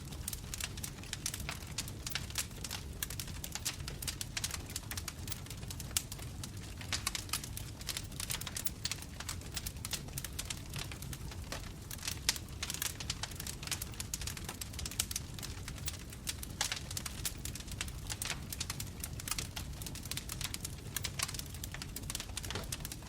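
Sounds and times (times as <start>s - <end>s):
bonfire crackling and popping: 0.0s - 23.0s
low rumble of burning flames: 0.0s - 23.0s.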